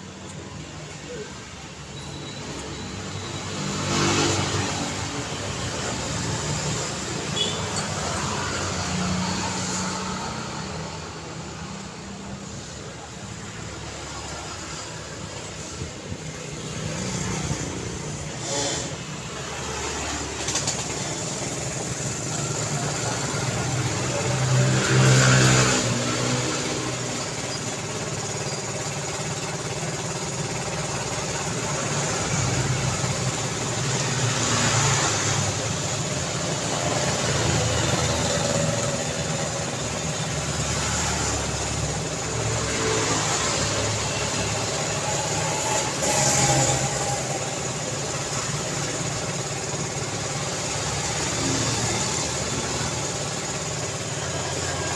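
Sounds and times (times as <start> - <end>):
road traffic: 0.0 - 54.9
vehicles passing close: 0.0 - 54.9.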